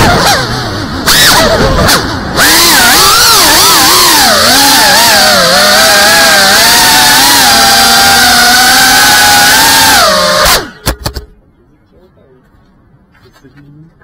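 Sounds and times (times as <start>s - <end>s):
drone propellers whining: 0.0s - 11.4s.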